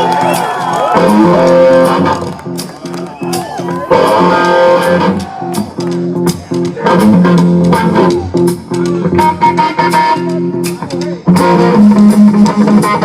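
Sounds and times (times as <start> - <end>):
drum kit beat: 0.0 - 13.0
electric guitar: 0.0 - 13.0
repeating bass riff: 0.0 - 13.0.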